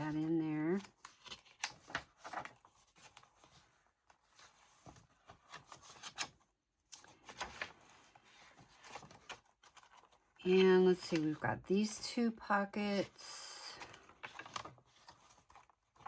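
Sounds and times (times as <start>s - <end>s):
paper rustling: 0.0s - 12.0s, 13.0s - 16.0s.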